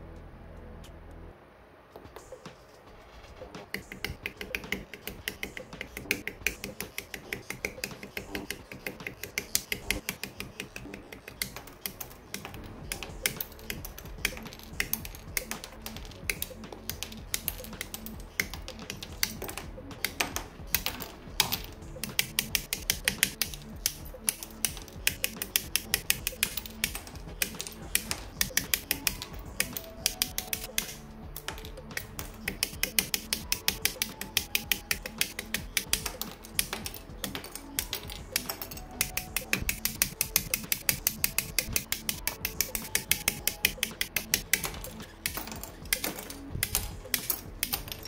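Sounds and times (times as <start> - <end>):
background music: 0.0 - 48.0
plastic parts clicking and snapping: 3.8 - 48.0.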